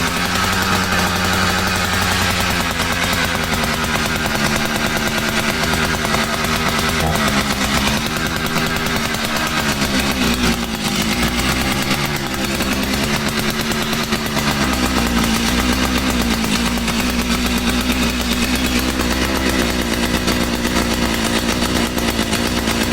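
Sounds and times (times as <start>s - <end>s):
chainsaw engine buzzing: 0.0s - 22.9s.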